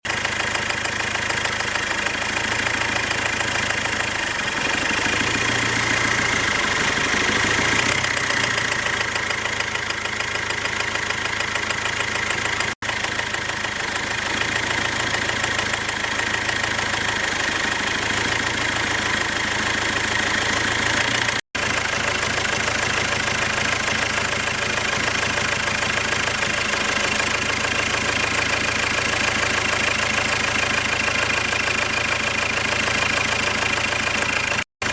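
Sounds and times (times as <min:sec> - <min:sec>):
engine idling: 0:00.0 - 0:34.9
engine knocking: 0:00.0 - 0:34.9.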